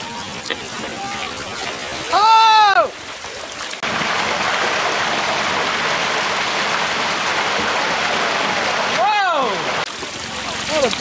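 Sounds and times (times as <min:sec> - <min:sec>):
water gushing and splashing: 0:00.0 - 0:11.0.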